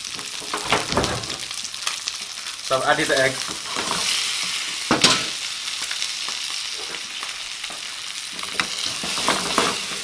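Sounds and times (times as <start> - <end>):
eggs sizzling in pan: 0.0 - 10.0.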